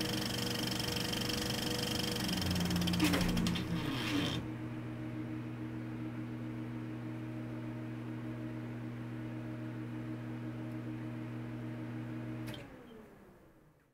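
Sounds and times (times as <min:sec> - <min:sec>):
low machine hum: 0:00.0 - 0:13.6.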